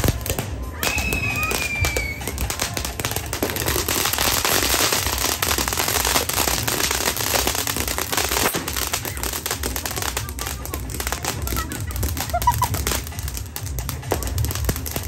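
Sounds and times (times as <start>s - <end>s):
fireworks crackling: 0.0s - 15.0s
fireworks fountain hissing: 0.0s - 15.0s.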